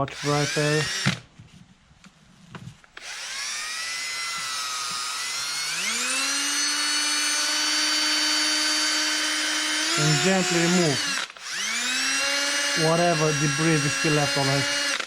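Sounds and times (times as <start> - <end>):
power drill motor whine: 0.0 - 1.3, 3.0 - 15.0.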